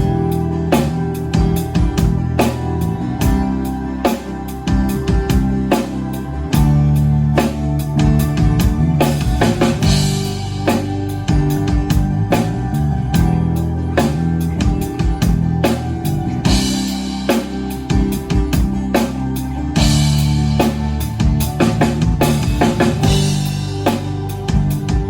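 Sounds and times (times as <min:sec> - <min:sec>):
drum kit beat: 0:00.0 - 0:25.0
guitar chords: 0:00.0 - 0:25.0.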